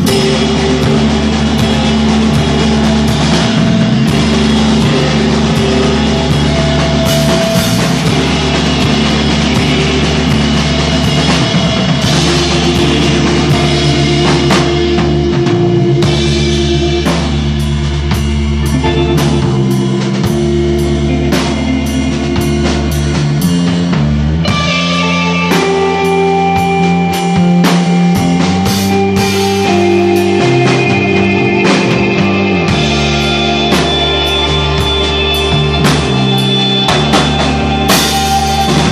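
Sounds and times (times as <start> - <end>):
bass guitar chords: 0.0 - 38.9
distorted electric guitar: 0.0 - 38.9
drum kit beat: 0.0 - 38.9.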